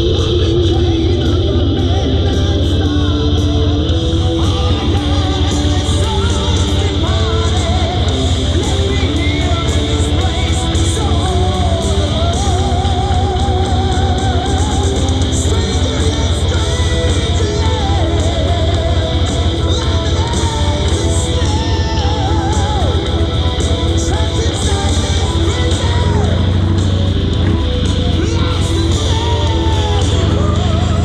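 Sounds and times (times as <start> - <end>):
person singing with vibrato: 0.0 - 31.0
rock music with electric guitar: 0.0 - 31.0
strong low rumble: 0.0 - 31.0.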